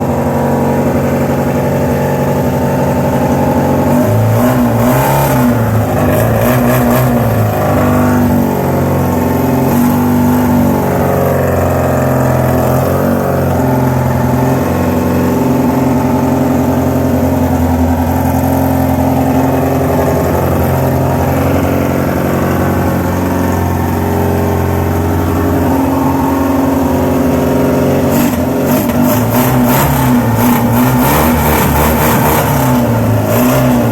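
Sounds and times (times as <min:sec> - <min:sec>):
motorcycle engine revving and idling: 0:00.0 - 0:33.9.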